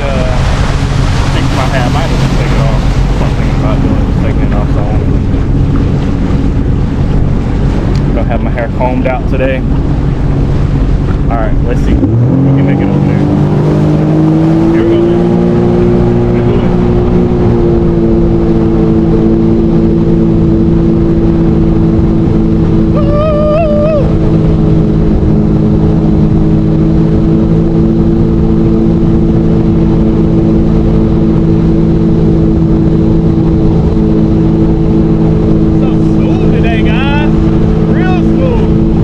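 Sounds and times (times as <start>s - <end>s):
jet ski engine drone: 0.0s - 39.0s
wind and water rushing: 0.0s - 39.0s.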